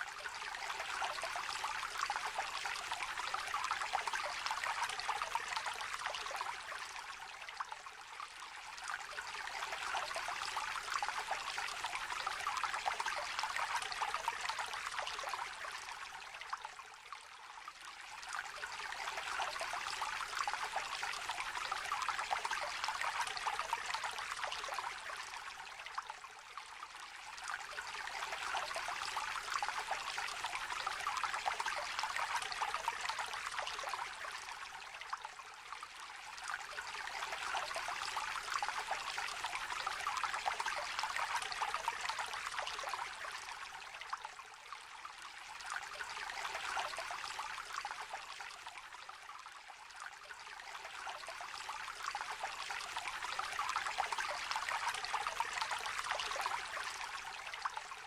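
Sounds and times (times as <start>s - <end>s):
small river trickling: 0.0s - 58.0s.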